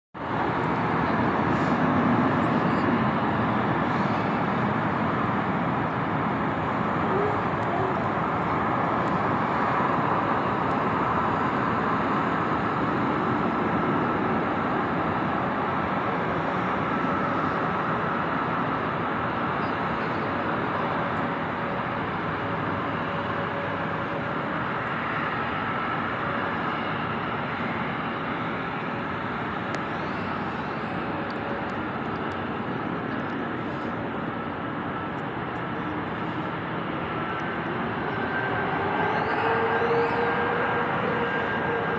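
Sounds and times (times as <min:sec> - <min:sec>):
faint steady whine: 0:00.2 - 0:41.9
jet engine rush: 0:00.2 - 0:41.9.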